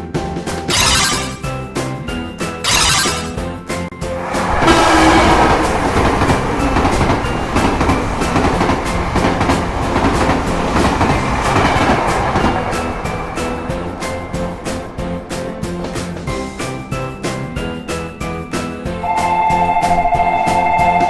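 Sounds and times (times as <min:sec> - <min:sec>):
train rattling clatter: 0:04.1 - 0:21.0.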